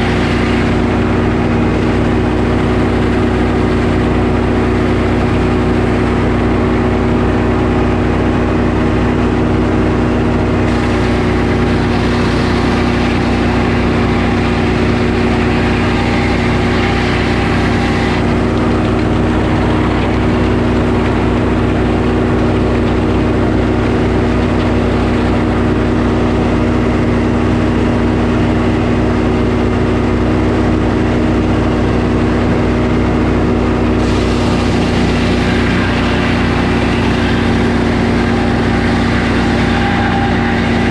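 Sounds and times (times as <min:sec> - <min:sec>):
sawmill engine running under load: 0:00.0 - 0:40.9.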